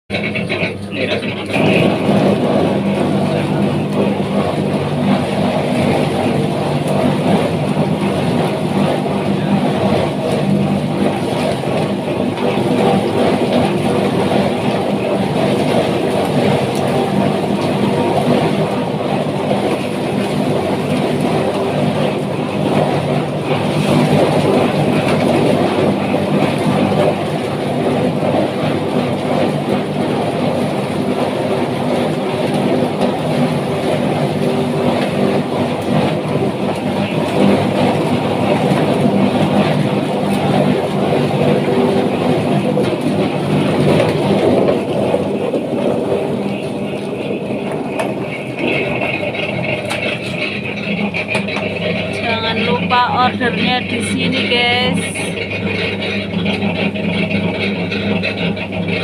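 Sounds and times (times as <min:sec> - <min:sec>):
dense mechanical noise: 0:00.0 - 0:59.0
plucking machine motor hum: 0:00.1 - 0:59.0.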